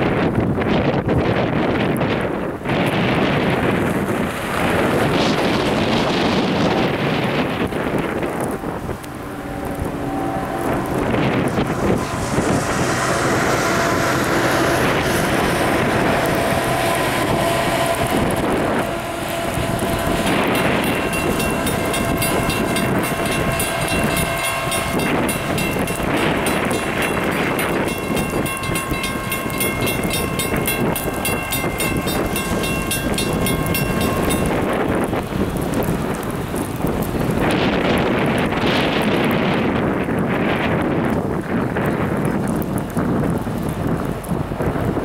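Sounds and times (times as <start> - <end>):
diesel locomotive engine: 0.0 - 45.0
wheel and rail noise: 0.0 - 45.0.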